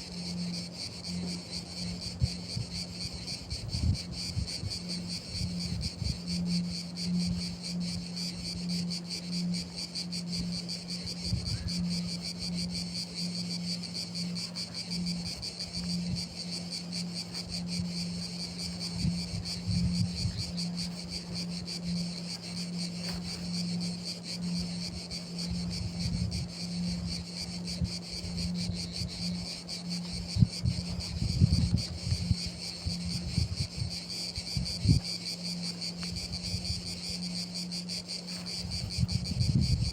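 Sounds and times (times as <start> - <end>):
crickets trilling: 0.0 - 39.9
low pulsing drone: 0.0 - 39.9.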